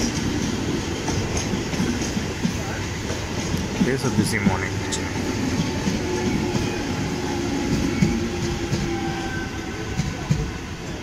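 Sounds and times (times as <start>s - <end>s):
train knocks: 0.0s - 11.0s
train wheels rumbling on track: 0.0s - 11.0s.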